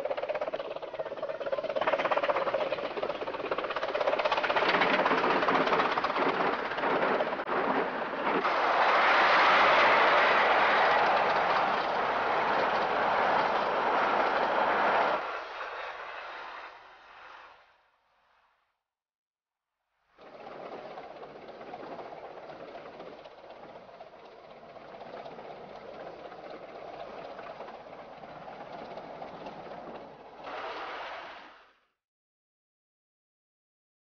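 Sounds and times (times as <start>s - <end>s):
miniature steam train running past: 0.0s - 17.6s, 20.2s - 30.9s.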